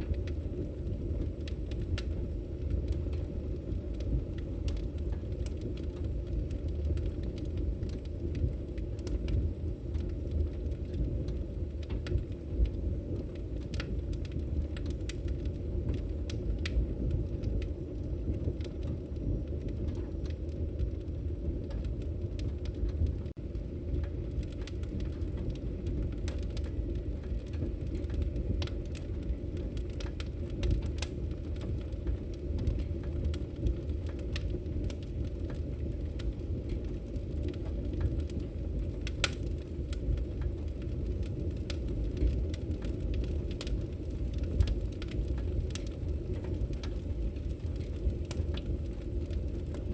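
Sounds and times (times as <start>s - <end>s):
fire popping and snapping: 0.0s - 49.9s
fire rumbling: 0.0s - 49.9s.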